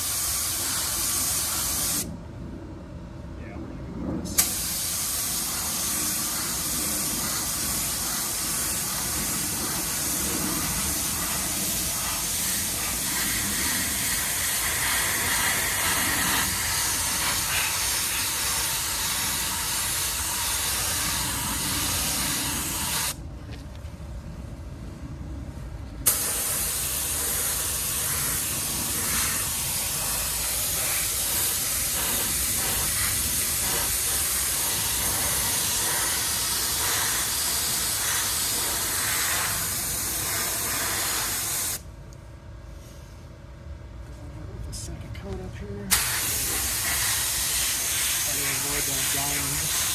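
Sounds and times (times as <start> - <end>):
spray gun hissing: 0.0 - 2.1, 4.4 - 23.2, 26.1 - 41.8, 45.9 - 49.9.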